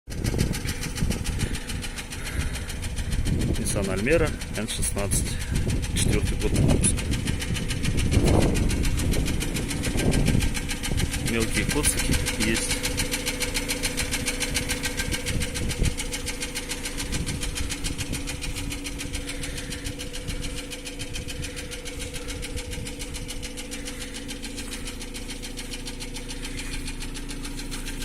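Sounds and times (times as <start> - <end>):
engine idling: 0.1 - 28.0
fast even valve ticking: 0.1 - 28.0.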